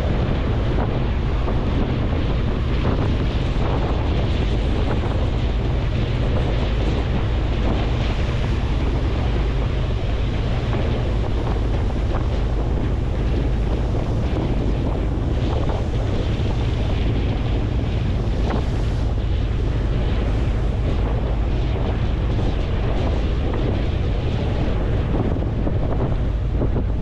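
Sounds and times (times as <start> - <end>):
boat engine rumble: 0.0 - 27.0
sea water rushing: 0.0 - 27.0
wind buffeting microphone: 0.0 - 27.0.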